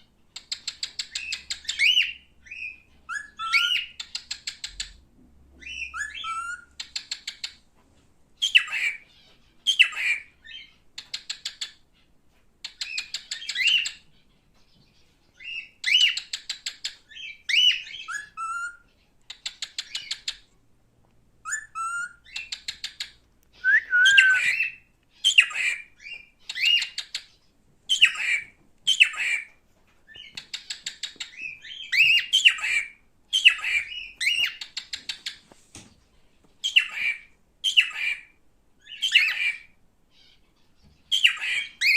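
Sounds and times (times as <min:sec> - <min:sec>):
cockatiel chattering chirps and whistles: 0:00.4 - 0:05.0, 0:05.6 - 0:07.6, 0:08.4 - 0:11.8, 0:12.6 - 0:14.0, 0:15.4 - 0:20.5, 0:21.4 - 0:29.5, 0:30.1 - 0:35.4, 0:36.6 - 0:41.9.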